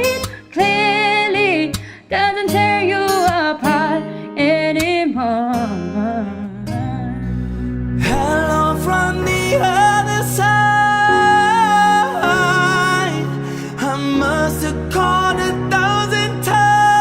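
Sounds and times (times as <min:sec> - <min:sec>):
guitar accompaniment: 0:00.0 - 0:17.0
person singing: 0:00.0 - 0:17.0.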